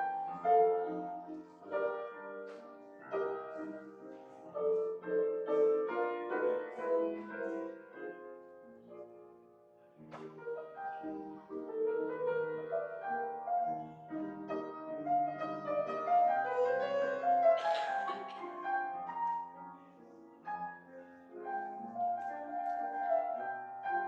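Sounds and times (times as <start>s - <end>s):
slow keyboard music: 0.0s - 24.0s.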